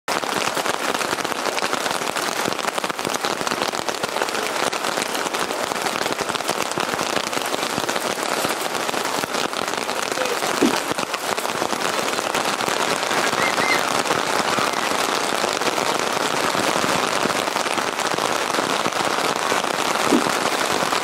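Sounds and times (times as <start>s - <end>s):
heavy rain on tent fabric: 0.0s - 21.0s.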